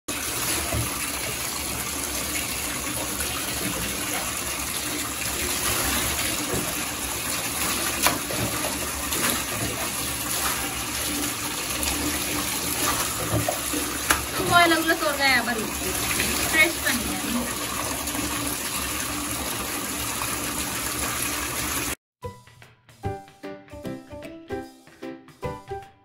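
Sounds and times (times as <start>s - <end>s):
tap running into bathtub: 0.1s - 22.0s
water splashing from jug: 0.1s - 22.0s.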